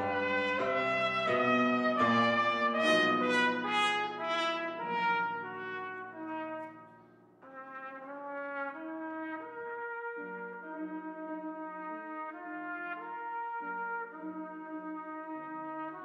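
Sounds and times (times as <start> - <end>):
piano accompaniment: 0.0 - 16.0
trumpet melody: 0.0 - 16.0.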